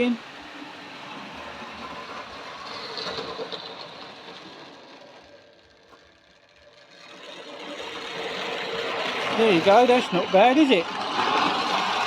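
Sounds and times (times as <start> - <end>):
model train motor whirring: 0.0 - 12.0
wheels rattling on rails: 0.0 - 12.0.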